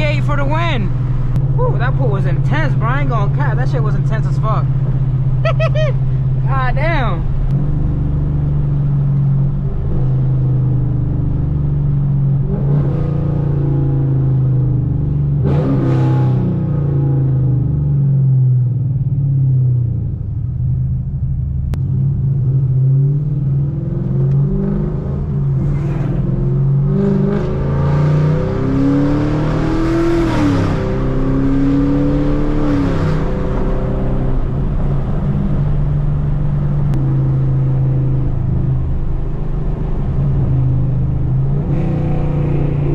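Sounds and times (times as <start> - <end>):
loud car exhaust accelerating: 0.0 - 42.9.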